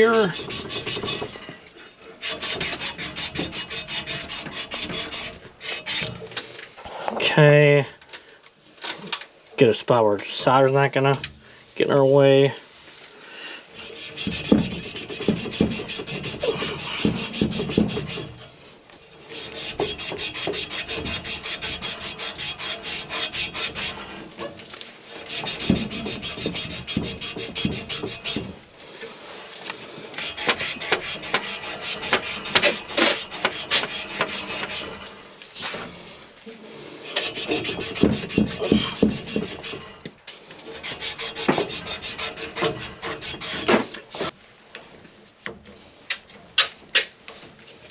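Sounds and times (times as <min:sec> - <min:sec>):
scraping on copper pipe: 0:00.0 - 0:07.7, 0:08.8 - 0:47.9.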